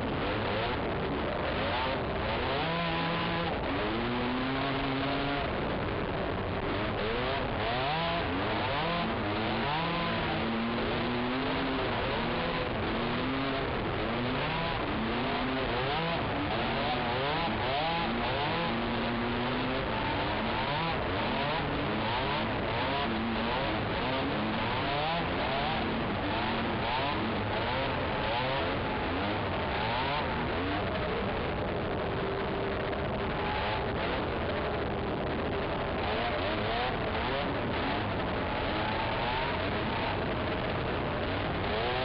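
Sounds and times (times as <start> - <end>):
quad engine revving: 0.0 - 42.0
steady rushing noise: 0.0 - 42.0.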